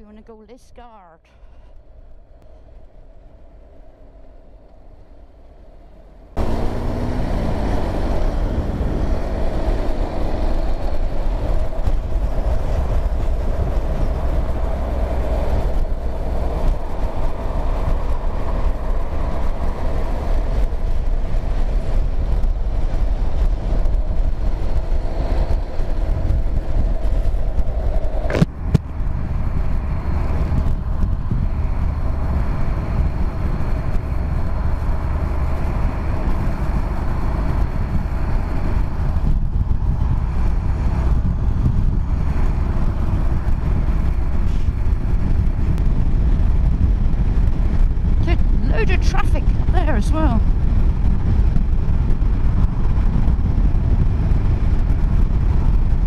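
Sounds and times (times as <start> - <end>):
wind noise on microphone: 0.0 - 56.0
motorcycle engine running: 6.4 - 56.0.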